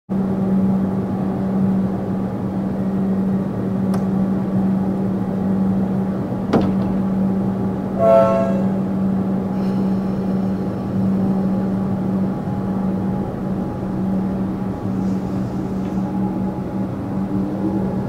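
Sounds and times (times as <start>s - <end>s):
train equipment humming: 0.1s - 18.0s.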